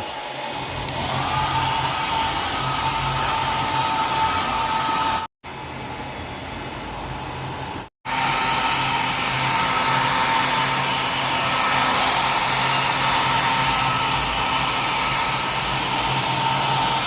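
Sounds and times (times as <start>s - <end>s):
hair dryer blowing with a whine: 0.0s - 17.0s.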